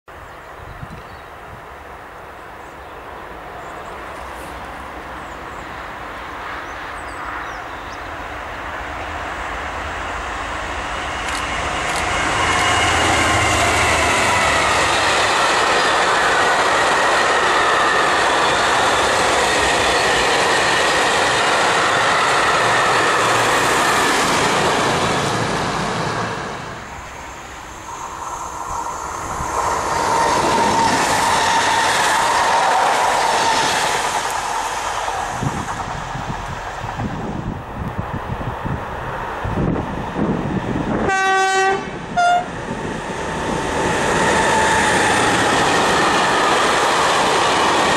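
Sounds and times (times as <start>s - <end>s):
freight train rolling past: 0.1s - 47.9s
electric train approaching: 0.2s - 47.9s.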